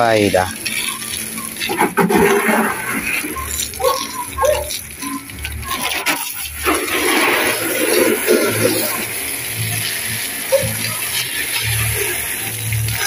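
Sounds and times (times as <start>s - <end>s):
hose water spraying and splashing: 0.0s - 13.0s.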